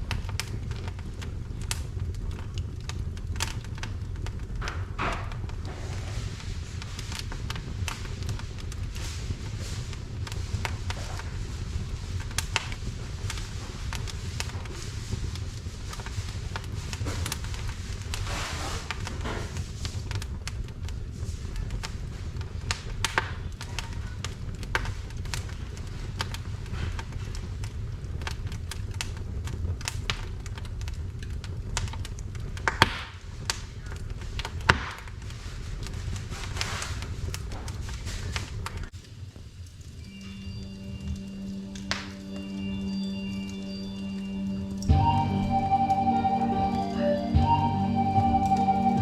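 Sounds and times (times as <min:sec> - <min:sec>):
fire crackling and popping: 0:00.0 - 0:49.0
low fire rumble: 0:00.0 - 0:49.0.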